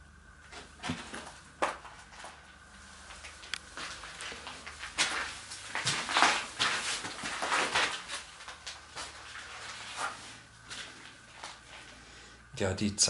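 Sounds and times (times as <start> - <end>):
footsteps scuffing on gritty floor: 0.5 - 11.9.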